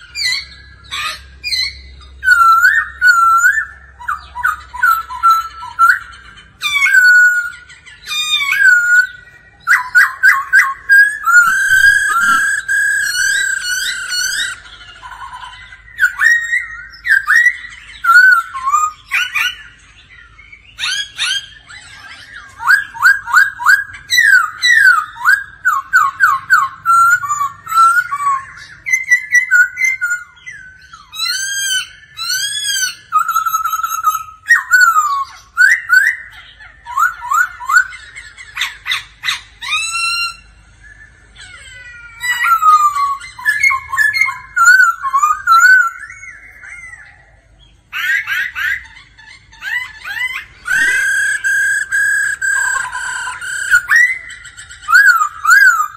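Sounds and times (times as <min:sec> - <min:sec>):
bird singing whistled song: 0:00.0 - 0:41.5, 0:42.2 - 0:55.9.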